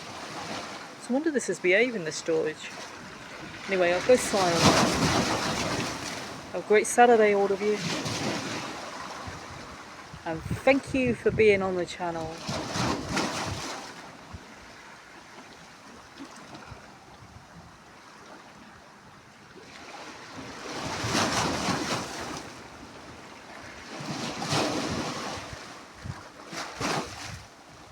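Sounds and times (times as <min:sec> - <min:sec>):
waves crashing: 0:00.0 - 0:17.0, 0:19.6 - 0:27.9
surf washing: 0:00.0 - 0:27.9.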